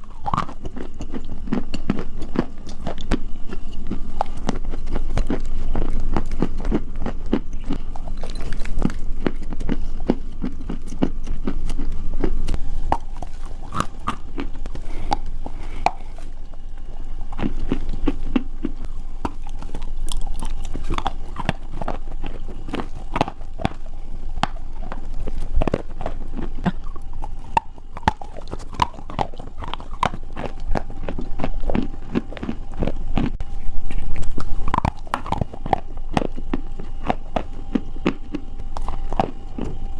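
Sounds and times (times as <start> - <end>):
clay being chewed crunchily: 0.0 - 39.9.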